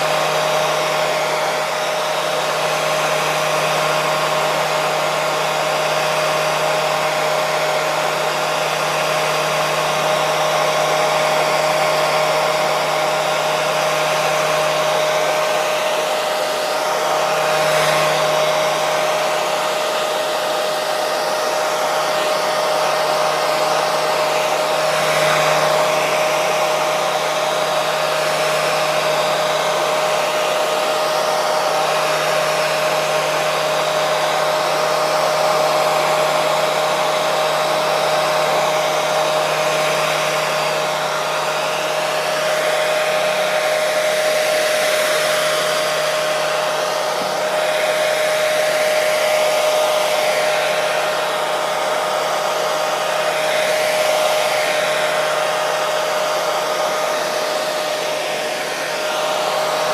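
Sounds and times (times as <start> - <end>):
hair dryer blowing air: 0.0 - 59.9.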